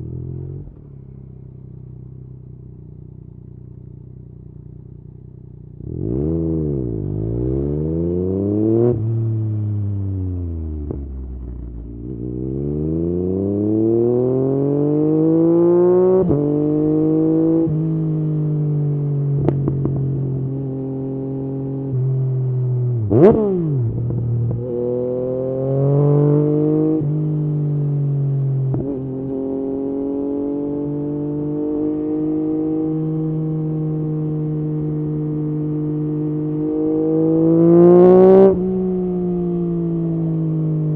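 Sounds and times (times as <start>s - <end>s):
motorcycle engine revving: 3.7s - 40.9s.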